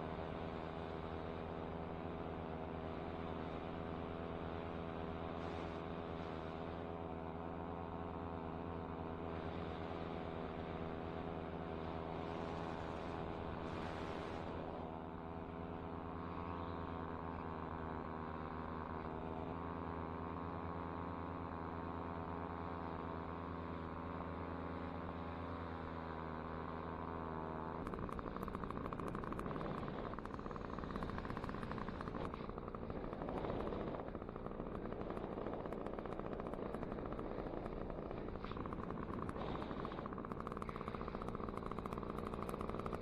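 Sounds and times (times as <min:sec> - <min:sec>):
paramotor engine running: 0:00.0 - 0:43.0.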